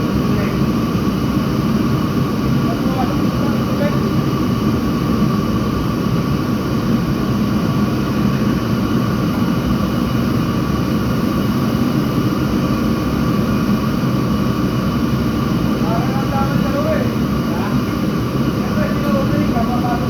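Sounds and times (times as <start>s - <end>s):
loud mechanical drone: 0.0s - 20.0s.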